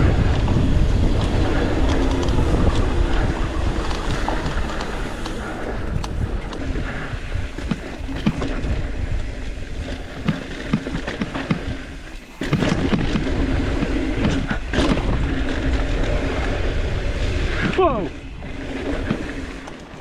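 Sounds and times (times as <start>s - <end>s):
bike rattling: 0.0s - 20.0s
wind buffeting microphone: 0.0s - 20.0s.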